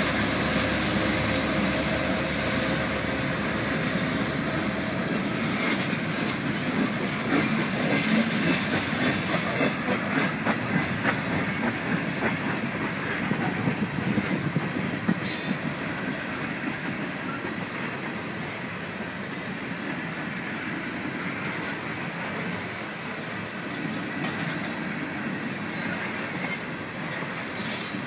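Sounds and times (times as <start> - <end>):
train wheels clacking over rail joints: 4.2 - 28.0.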